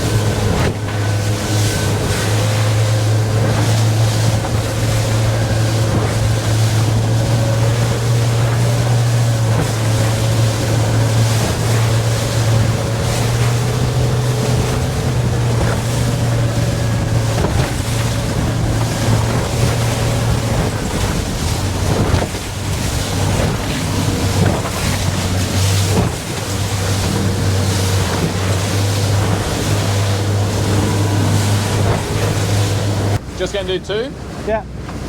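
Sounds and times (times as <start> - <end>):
boat motor droning: 0.0 - 35.0
water rushing: 0.0 - 35.0
wind buffeting microphone: 0.0 - 35.0.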